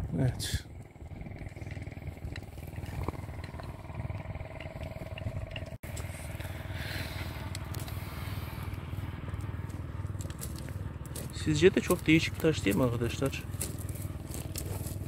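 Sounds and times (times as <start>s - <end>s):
distant motor drone: 0.0s - 15.0s.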